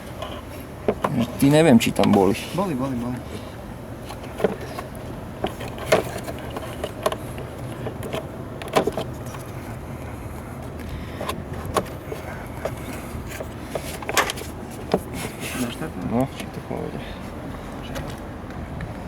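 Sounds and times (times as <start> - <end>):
clicks and knocks in engine bay: 0.0 - 16.6
steady low hum: 0.0 - 19.0.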